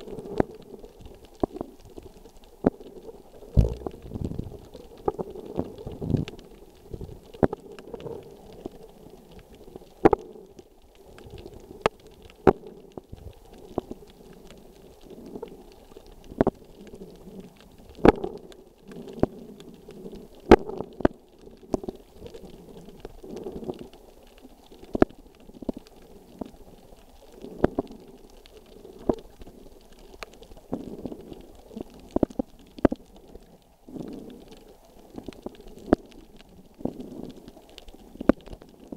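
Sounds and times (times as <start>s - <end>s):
muffled underwater rumbling: 0.0s - 38.9s.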